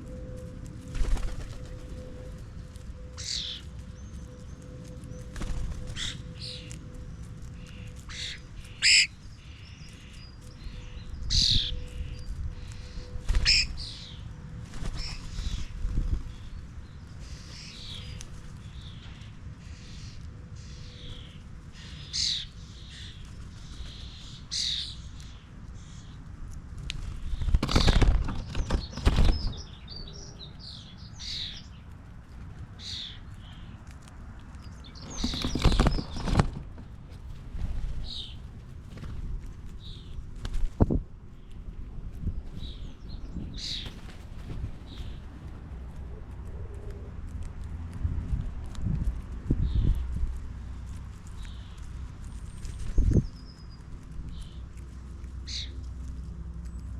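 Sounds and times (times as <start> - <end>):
birds chirping: 0.0 - 26.3, 27.0 - 47.1, 49.5 - 56.0.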